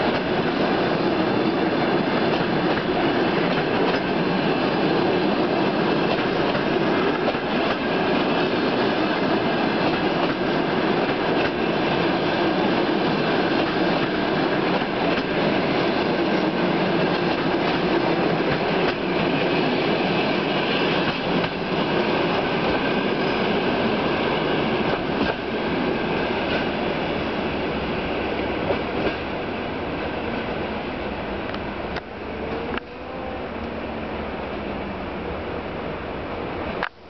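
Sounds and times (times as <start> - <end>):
train coaches rolling on rails: 0.0 - 37.0.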